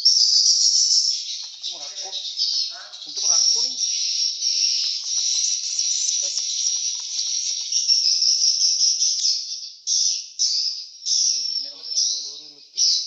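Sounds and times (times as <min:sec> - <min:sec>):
swiftlets twittering: 0:00.0 - 0:09.2, 0:11.1 - 0:13.0.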